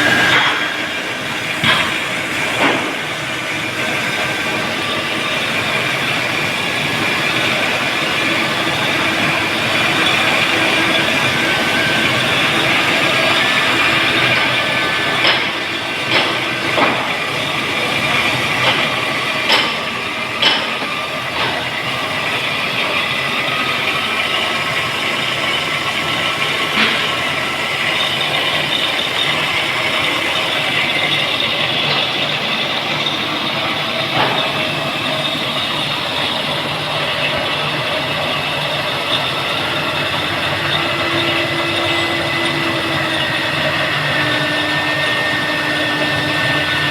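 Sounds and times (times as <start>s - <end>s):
industrial machinery din: 0.0s - 46.9s.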